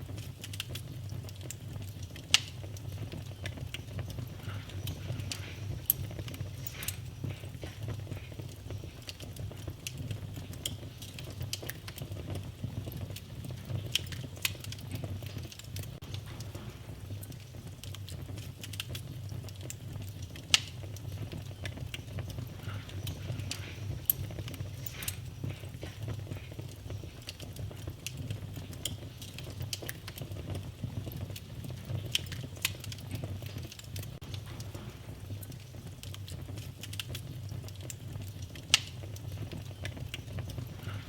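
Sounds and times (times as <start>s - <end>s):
fire crackling and popping: 0.0s - 41.0s
low rumble of flames: 0.0s - 41.0s.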